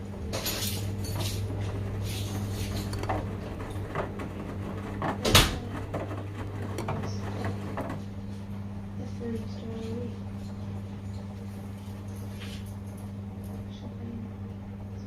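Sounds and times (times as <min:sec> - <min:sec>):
washing machines humming: 0:00.0 - 0:15.0.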